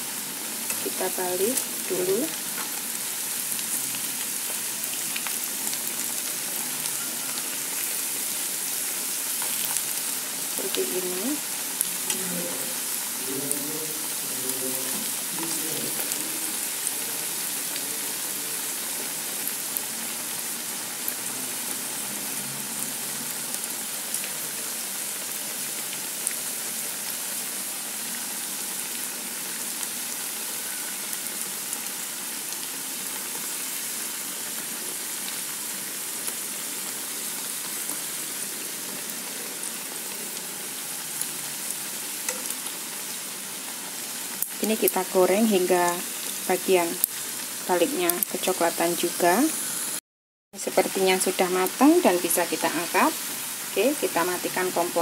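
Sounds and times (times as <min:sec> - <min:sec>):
fritters sizzling in deep oil: 0:00.0 - 0:50.0, 0:50.6 - 0:55.0.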